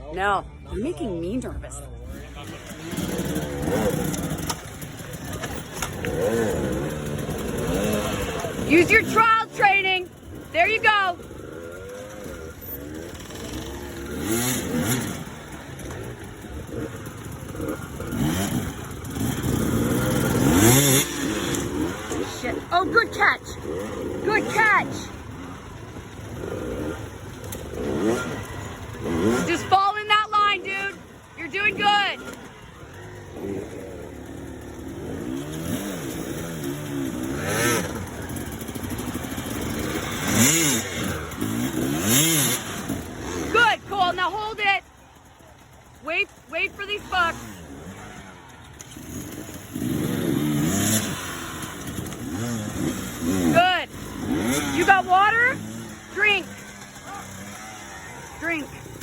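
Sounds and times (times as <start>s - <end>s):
dirt bike engine revving: 0.2s - 59.0s.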